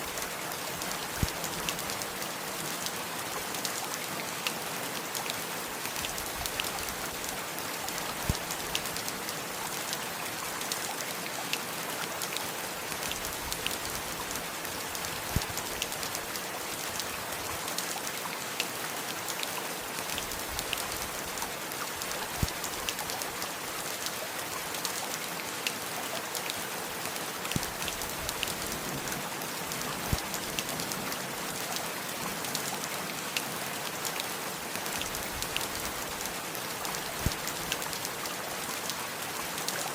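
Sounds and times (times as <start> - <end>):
raindrops ticking close by: 0.0 - 39.9
steady rain: 0.0 - 39.9.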